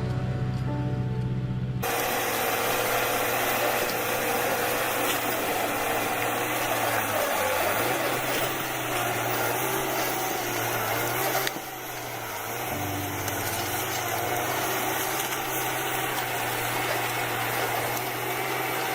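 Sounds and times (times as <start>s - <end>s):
machine engine running: 0.0s - 18.9s.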